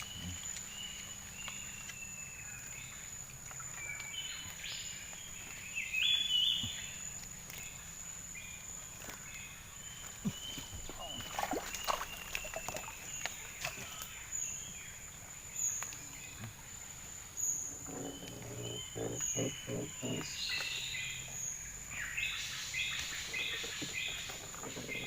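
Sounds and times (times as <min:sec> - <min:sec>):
birds calling: 0:00.0 - 0:25.0
insects droning: 0:00.0 - 0:25.0.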